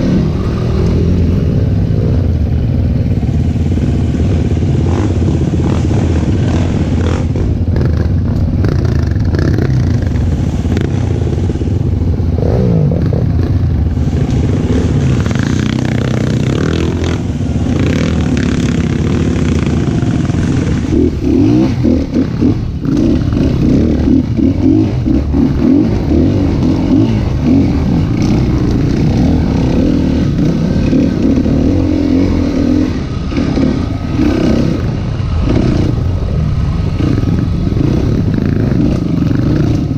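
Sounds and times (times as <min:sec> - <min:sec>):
dirt bike engine revving: 0:03.6 - 0:39.9.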